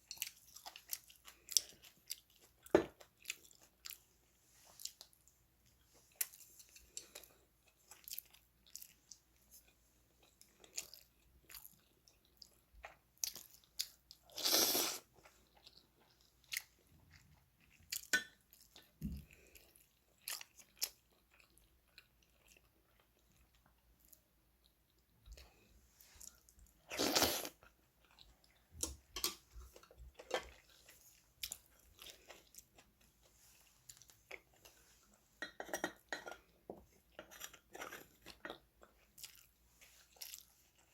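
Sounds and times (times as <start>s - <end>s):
person chewing and crunching: 0.0s - 40.9s.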